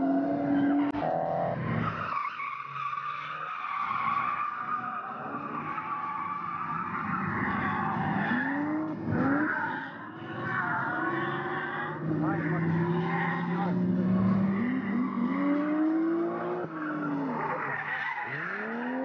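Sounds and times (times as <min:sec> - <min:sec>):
car engines revving: 0:00.0 - 0:19.0
tyres squealing: 0:00.3 - 0:19.0.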